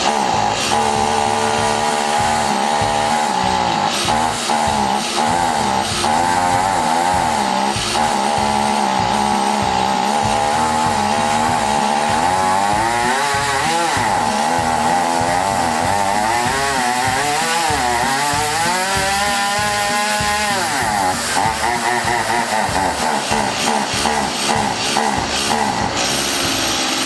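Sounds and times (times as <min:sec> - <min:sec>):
chainsaw engine running unevenly: 0:00.0 - 0:27.0.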